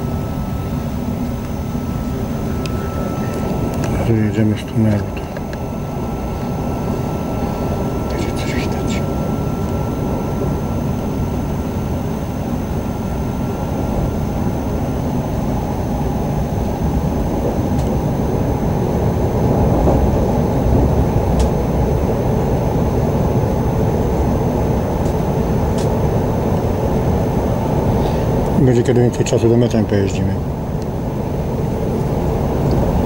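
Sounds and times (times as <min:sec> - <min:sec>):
faint high whine: 0:00.0 - 0:33.0
train carriage rumble: 0:00.0 - 0:33.0.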